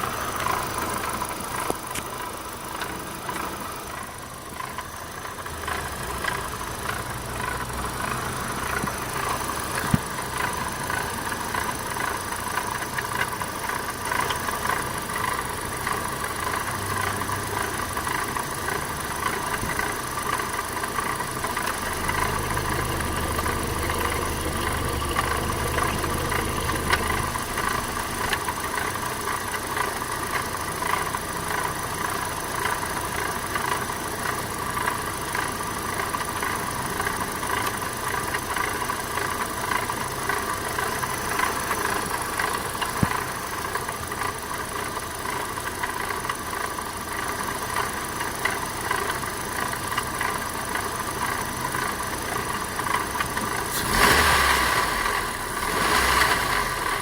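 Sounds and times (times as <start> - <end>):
petrol engine running with rattle: 0.0 - 57.0.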